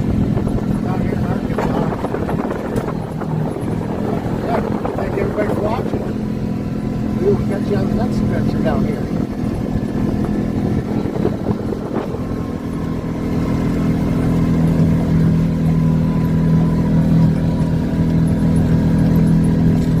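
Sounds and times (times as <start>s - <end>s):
off-road vehicle engine driving: 0.0s - 20.0s.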